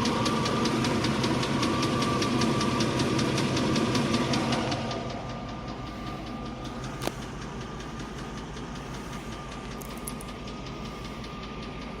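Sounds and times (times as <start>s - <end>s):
engine idling with heavy tick: 0.0s - 12.0s.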